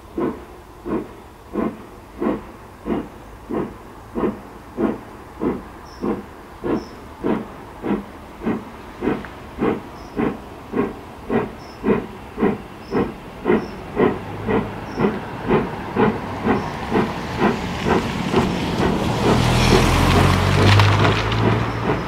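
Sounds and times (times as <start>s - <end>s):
low train rumble: 0.0s - 22.0s
steam locomotive exhaust beats: 0.0s - 22.0s.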